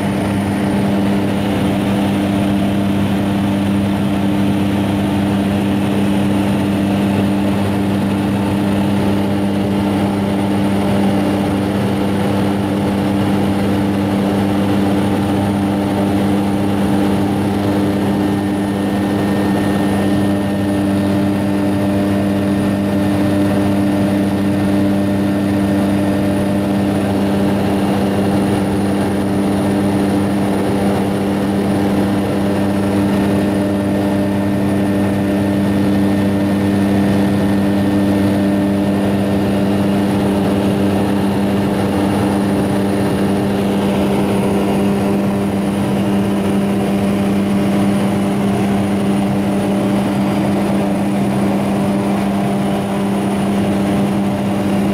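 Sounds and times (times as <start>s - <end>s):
propeller aircraft engine hum: 0.0s - 54.9s.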